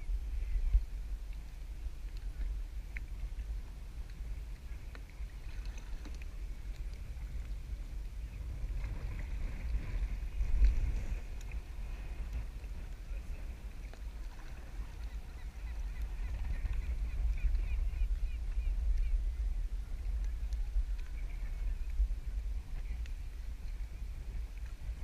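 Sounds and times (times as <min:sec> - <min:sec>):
water sloshing around kayak: 0:00.0 - 0:25.0
wind rumbling on microphone: 0:00.0 - 0:25.0.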